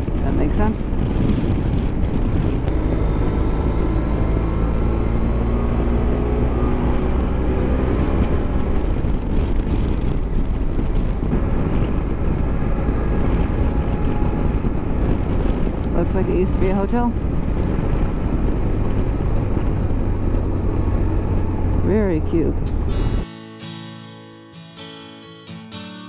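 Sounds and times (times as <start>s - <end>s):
motorcycle engine running: 0.0s - 23.2s
wind rushing over microphone: 0.0s - 23.3s.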